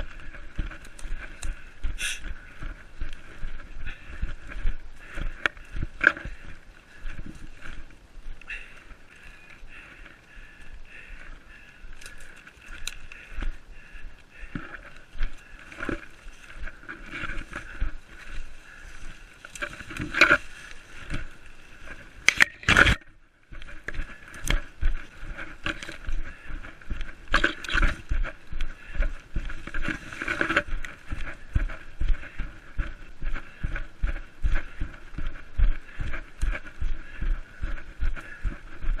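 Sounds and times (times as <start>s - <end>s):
runner's footsteps: 0.0s - 39.0s.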